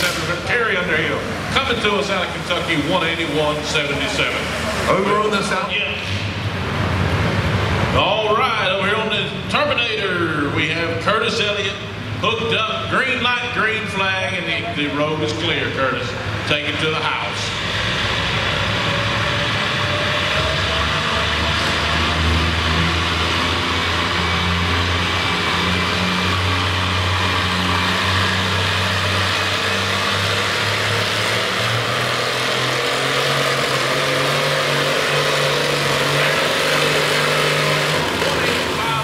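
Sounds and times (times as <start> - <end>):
tractor engine running hard: 0.0 - 39.0.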